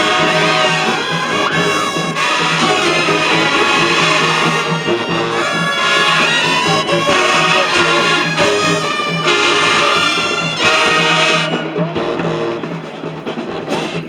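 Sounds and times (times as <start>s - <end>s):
distant marching band: 0.0s - 14.0s.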